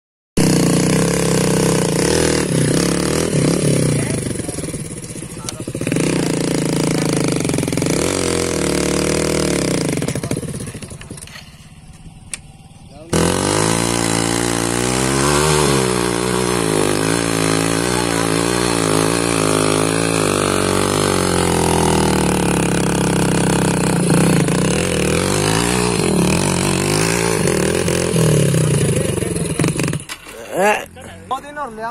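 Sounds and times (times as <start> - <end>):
motorcycle engine revving: 0.4 - 31.6.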